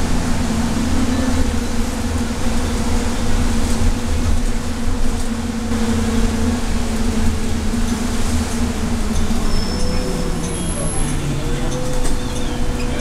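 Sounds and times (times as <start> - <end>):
bus engine and drivetrain drone: 0.0 - 13.0
constant hum: 0.0 - 13.0
road and tyre noise: 0.0 - 13.0.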